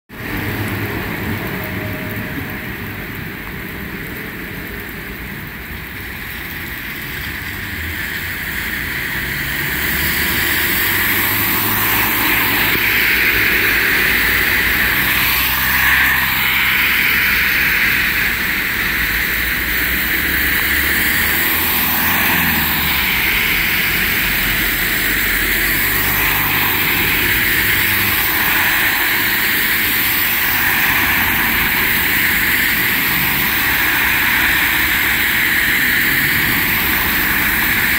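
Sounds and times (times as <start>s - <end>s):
tyres on wet road: 0.1s - 37.9s
vehicles passing by: 0.1s - 37.9s.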